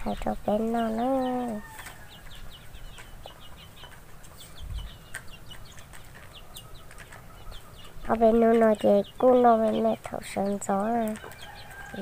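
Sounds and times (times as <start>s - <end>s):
chickens peeping: 0.0s - 12.0s.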